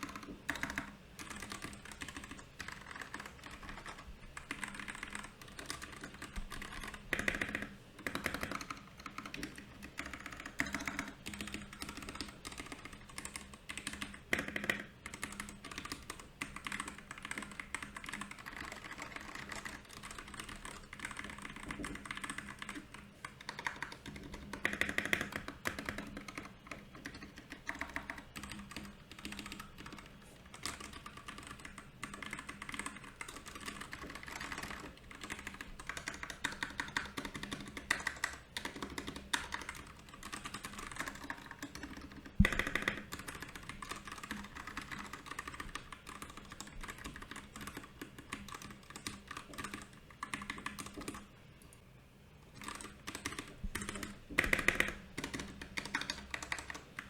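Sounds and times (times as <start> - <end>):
mechanical keyboard typing: 0.0 - 51.3, 52.5 - 57.0.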